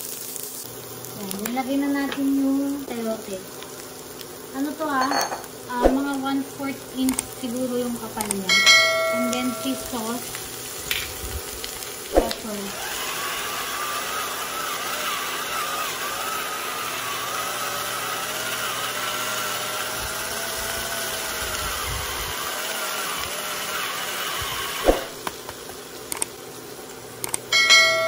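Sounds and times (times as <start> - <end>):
electric pepper grinder motor whine: 0.0 - 28.0.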